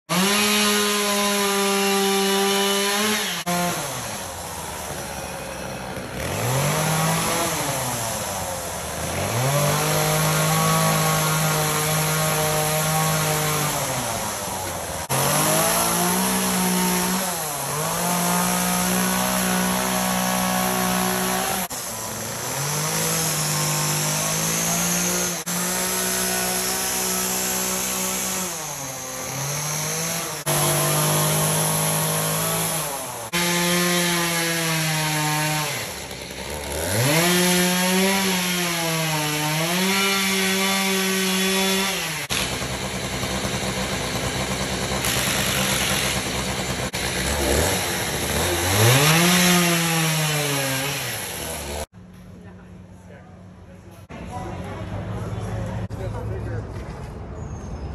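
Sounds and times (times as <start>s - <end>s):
chainsaw cutting log: 0.1s - 51.9s.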